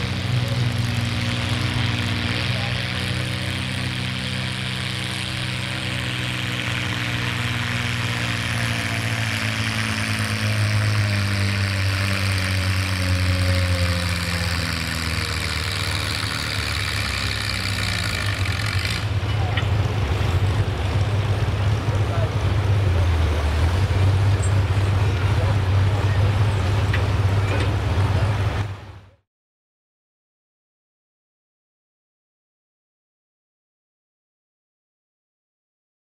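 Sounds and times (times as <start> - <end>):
tractor engine running under load: 0.0 - 29.2.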